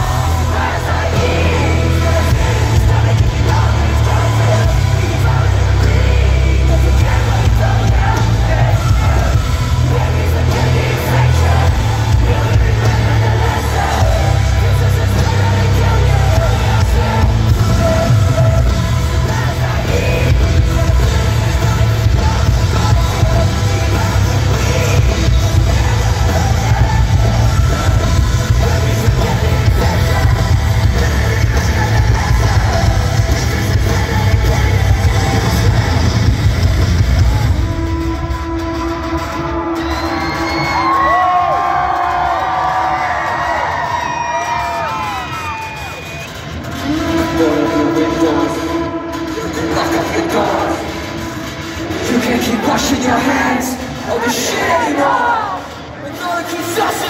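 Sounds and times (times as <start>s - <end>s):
heavy rock band playing: 0.0s - 57.0s
singer's voice: 0.0s - 57.0s.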